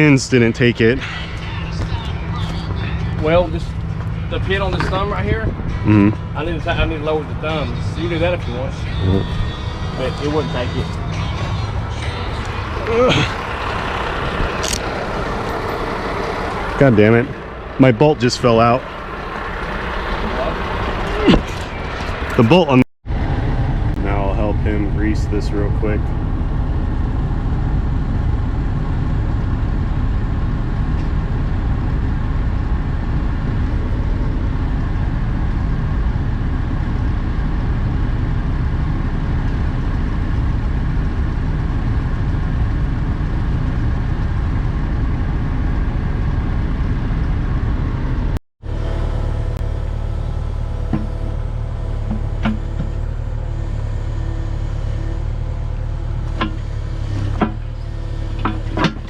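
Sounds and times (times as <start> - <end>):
diesel engine idling: 0.0 - 59.0
steady engine drone: 0.0 - 59.0.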